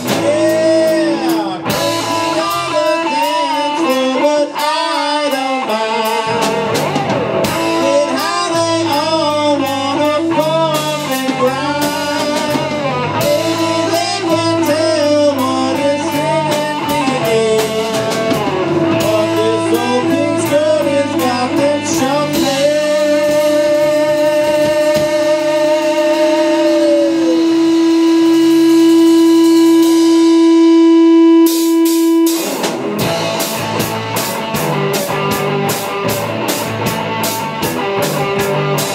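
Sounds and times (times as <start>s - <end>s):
drums and cymbals crashing: 0.0s - 38.9s
electric guitar lead line: 0.0s - 38.9s
rock band playing: 0.0s - 38.9s.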